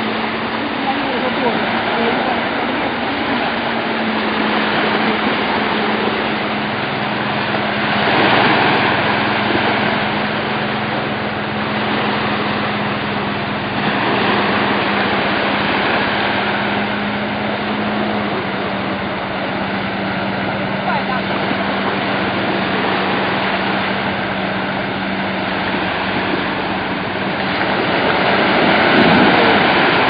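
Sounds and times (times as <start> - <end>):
motorboat engine humming: 0.0 - 30.0
water noise: 0.0 - 30.0.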